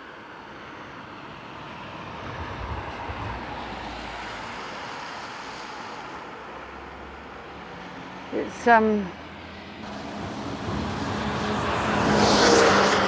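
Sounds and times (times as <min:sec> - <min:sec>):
car passing: 0:00.6 - 0:13.0.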